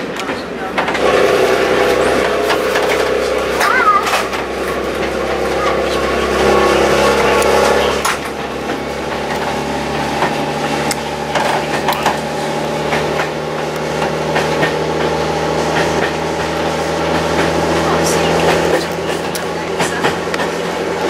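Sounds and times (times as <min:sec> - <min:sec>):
train clicks and rattles: 0:00.0 - 0:21.0
train engine drone: 0:00.0 - 0:21.0.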